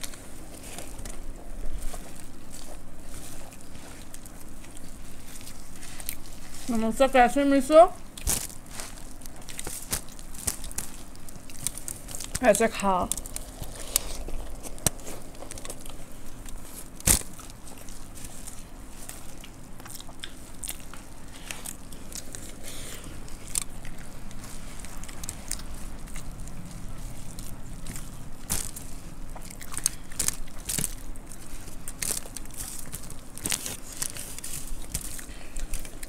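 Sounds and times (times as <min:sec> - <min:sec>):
people chewing crunchy puffed rice: 0:00.0 - 0:36.0.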